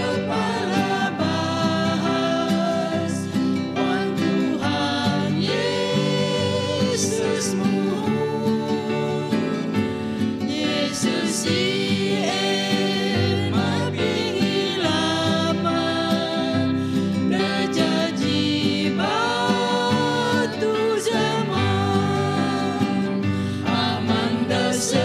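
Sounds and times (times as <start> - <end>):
acoustic guitar: 0.0 - 25.0
group singing worship song: 0.0 - 25.0.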